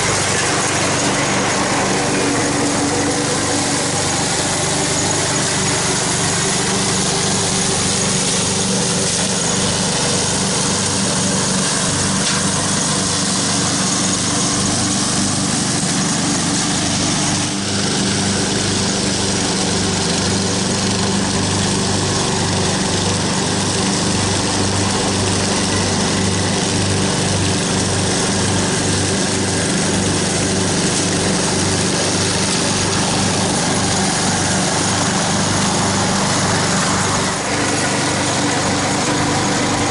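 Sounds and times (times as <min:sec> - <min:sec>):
mower mulching dry leaves: 0:00.0 - 0:39.9
riding lawn mower engine running: 0:00.0 - 0:39.9.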